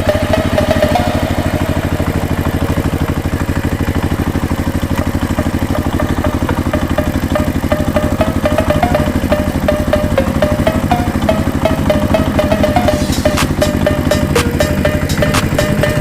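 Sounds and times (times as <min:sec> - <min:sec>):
small tractor engine puttering: 0:00.0 - 0:16.0.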